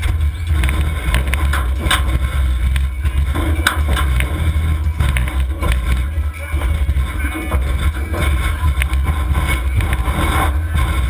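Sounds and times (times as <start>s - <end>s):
car engines running hard: 0.0s - 11.0s.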